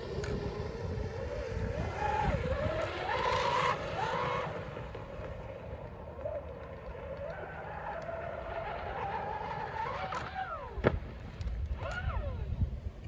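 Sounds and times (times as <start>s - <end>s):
electric boat motor whining: 0.0s - 12.7s
wind rumbling on microphone: 0.0s - 13.0s.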